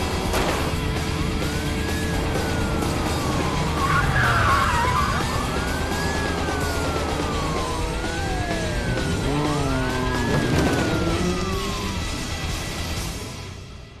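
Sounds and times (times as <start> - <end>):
police sirens wailing: 0.0 - 13.7.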